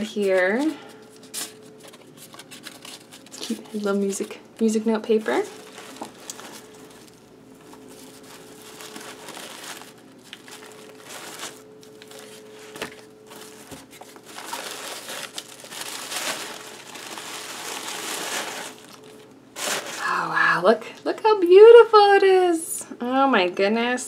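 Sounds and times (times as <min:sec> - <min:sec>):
wrapping paper crinkling and rustling: 0:00.0 - 0:20.4.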